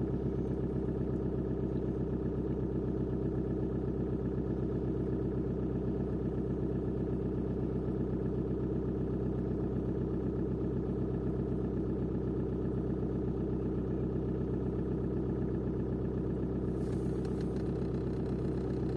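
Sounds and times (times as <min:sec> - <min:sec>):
diesel engine idling with clatter: 0:00.0 - 0:18.9.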